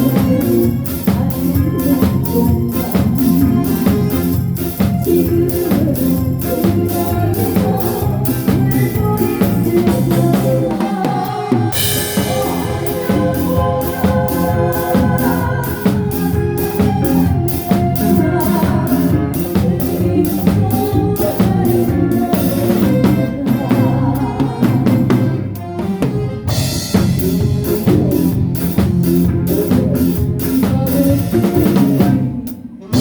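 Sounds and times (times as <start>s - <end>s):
bass: 0.0s - 33.0s
drum kit beat: 0.0s - 33.0s
organ-like keyboard chords: 0.0s - 33.0s.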